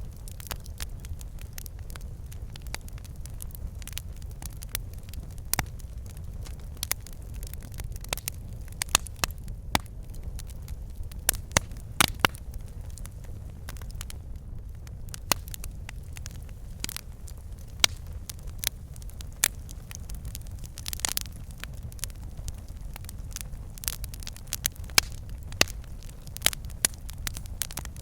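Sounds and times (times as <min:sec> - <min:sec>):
flames rumbling: 0:00.0 - 0:28.0
logs crackling and popping: 0:00.0 - 0:28.0.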